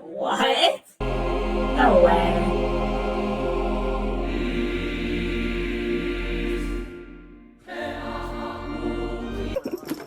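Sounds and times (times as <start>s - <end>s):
choir-like voices holding notes: 1.0s - 9.6s.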